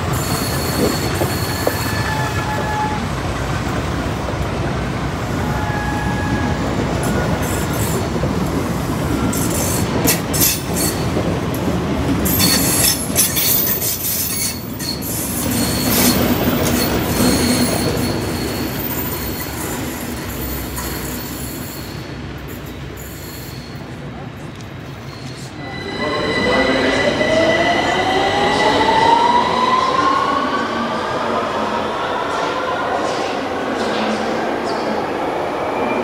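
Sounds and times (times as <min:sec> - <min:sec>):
train passing on rails: 0:00.0 - 0:36.0.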